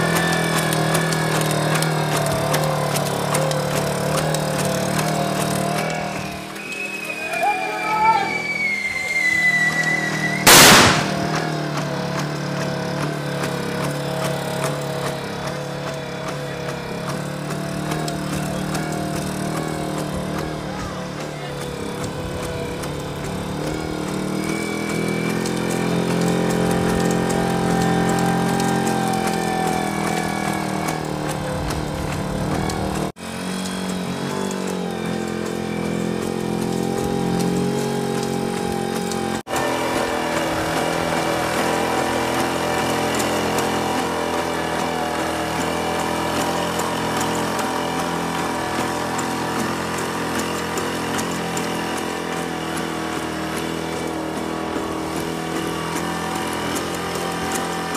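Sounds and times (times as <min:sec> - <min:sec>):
robot engine droning: 0:00.0 - 0:57.9.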